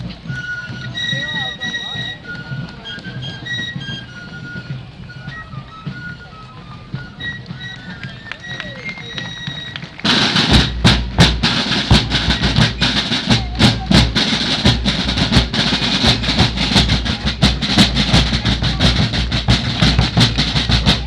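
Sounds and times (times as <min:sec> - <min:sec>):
field drums beating: 0:00.0 - 0:21.0.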